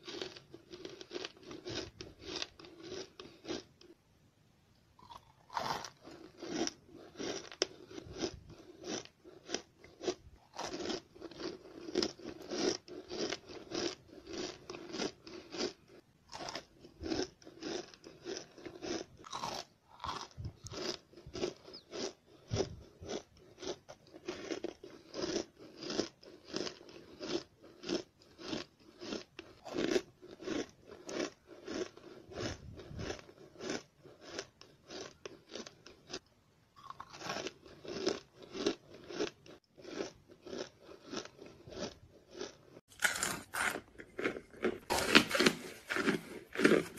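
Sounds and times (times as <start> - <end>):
crunching and chewing chalk: 0.0 - 4.0, 5.0 - 46.9.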